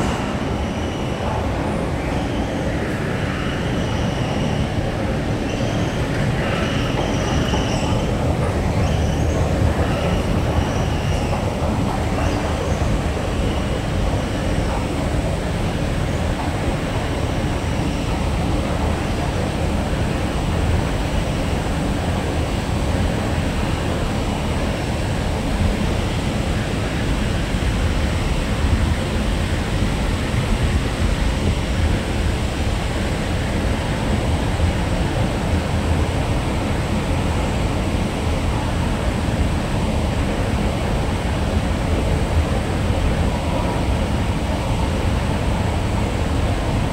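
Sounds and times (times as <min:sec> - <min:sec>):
escalator mechanical rumble: 0:00.0 - 0:46.9.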